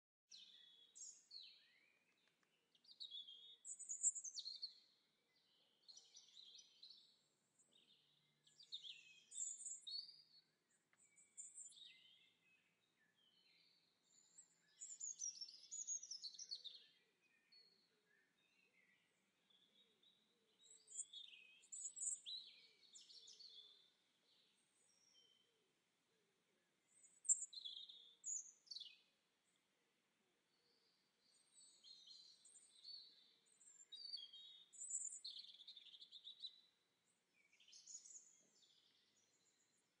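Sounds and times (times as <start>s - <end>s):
songbirds chirping: 0.3s - 40.0s.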